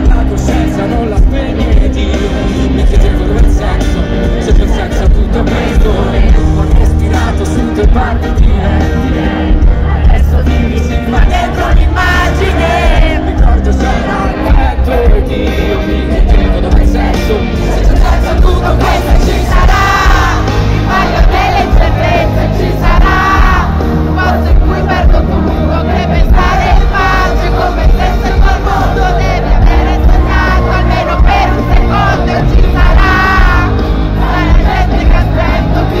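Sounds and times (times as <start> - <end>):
crowd voices: 0.0 - 36.0
live pop-rock music over loudspeakers: 0.0 - 36.0
person singing: 0.0 - 36.0.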